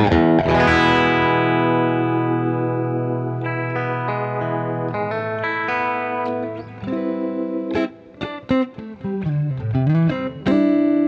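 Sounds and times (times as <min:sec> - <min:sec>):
electric guitar with tremolo: 0:00.0 - 0:11.0.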